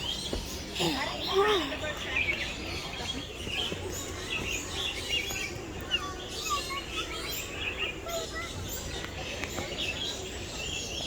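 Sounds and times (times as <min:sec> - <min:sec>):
many birds chirping: 0:00.0 - 0:11.0.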